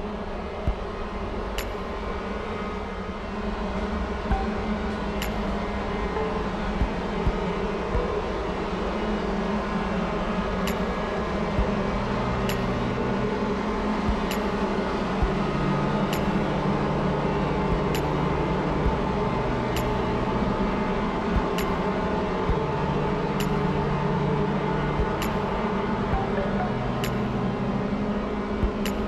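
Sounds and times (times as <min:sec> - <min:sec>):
mechanical hum with droning tones: 0:00.0 - 0:29.0.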